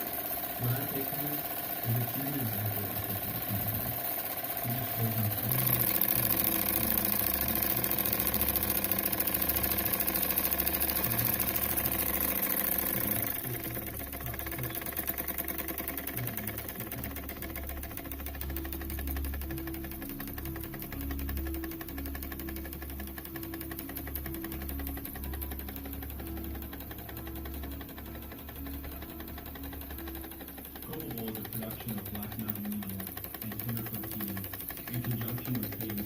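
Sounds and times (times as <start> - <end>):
toy steam engine running: 0.0 - 36.0.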